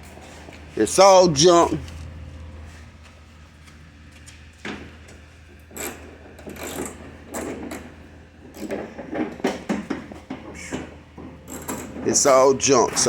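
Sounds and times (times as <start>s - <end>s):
car parts knocking and rattling: 0.0s - 13.0s
steady low hum: 0.0s - 13.0s.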